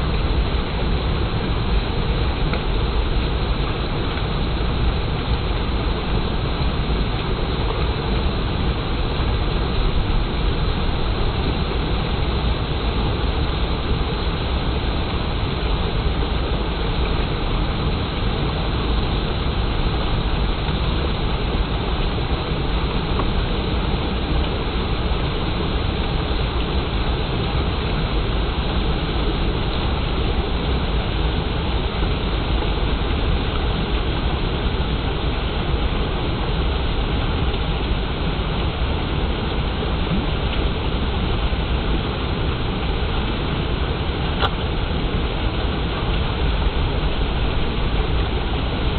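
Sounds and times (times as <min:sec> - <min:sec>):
water flowing and splashing: 0:00.0 - 0:48.9.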